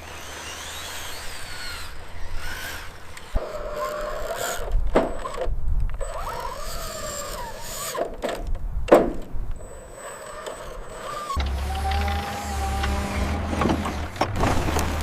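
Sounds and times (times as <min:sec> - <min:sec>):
small electric motors whining: 0:00.0 - 0:08.1, 0:09.6 - 0:14.2.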